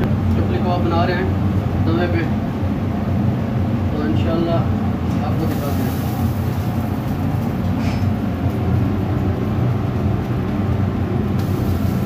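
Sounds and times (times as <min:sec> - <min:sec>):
extraction hood fan rumbling: 0:00.0 - 0:12.0.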